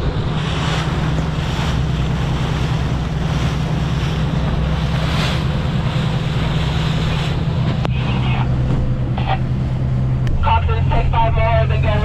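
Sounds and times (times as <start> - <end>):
boat engine droning: 0.0 - 12.0
water rushing along hull: 0.0 - 12.0
wind buffeting microphone: 0.0 - 12.0.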